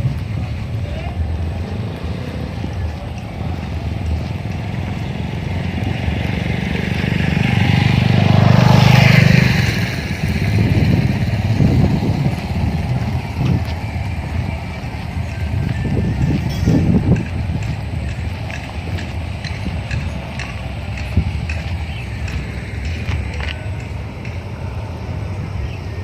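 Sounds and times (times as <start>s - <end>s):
low rumble: 0.0s - 26.0s
motor vehicle passing: 0.0s - 26.0s.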